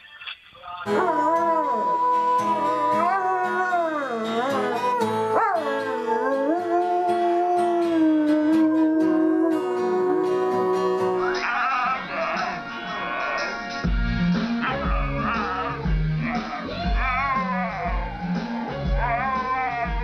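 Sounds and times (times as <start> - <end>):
music: 0.6 - 20.0
dog howling: 0.9 - 13.4, 14.8 - 20.0.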